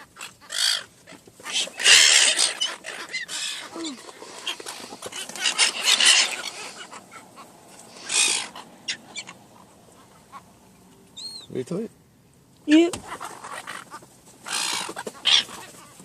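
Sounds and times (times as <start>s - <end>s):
birds squawking: 0.0s - 11.7s, 12.7s - 16.0s.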